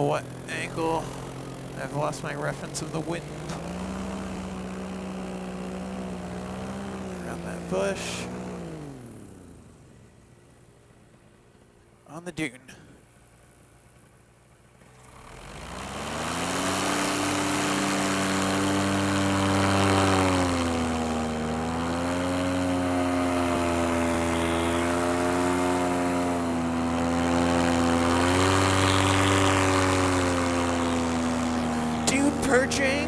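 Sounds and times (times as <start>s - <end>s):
paramotor engine and propeller: 0.0s - 33.0s.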